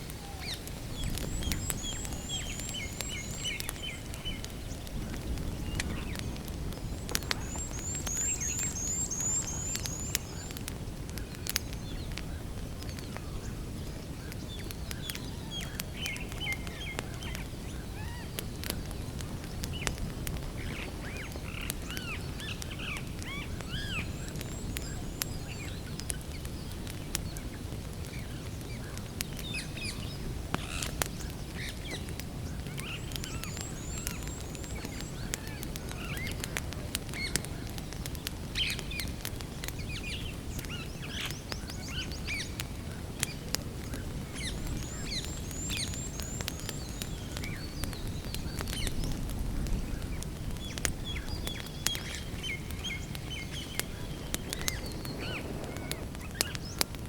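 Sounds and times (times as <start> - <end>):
campfire crackling and popping: 0.0 - 57.0
small birds chirping and singing: 0.0 - 57.0.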